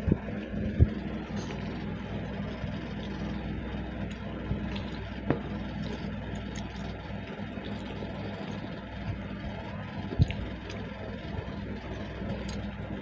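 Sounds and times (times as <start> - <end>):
eating by hand from plastic plates: 0.0 - 13.0
low motor hum: 0.0 - 13.0
chewing: 0.8 - 13.0.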